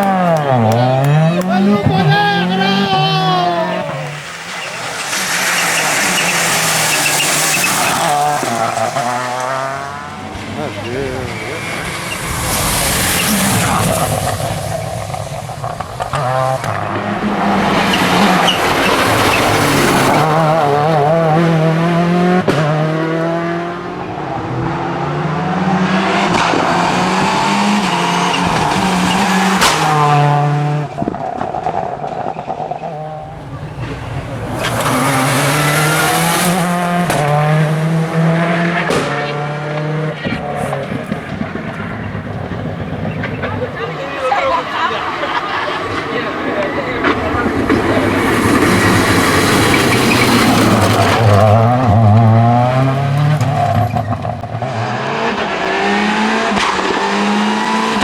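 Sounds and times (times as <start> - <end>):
rally car engine revving through gears: 0.0 - 58.0.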